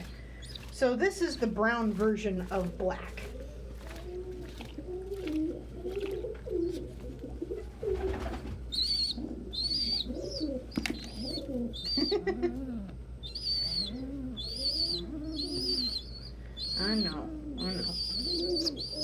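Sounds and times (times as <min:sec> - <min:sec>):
pigeons cooing: 0:00.0 - 0:19.0
young pigeon squeaking: 0:00.0 - 0:19.0.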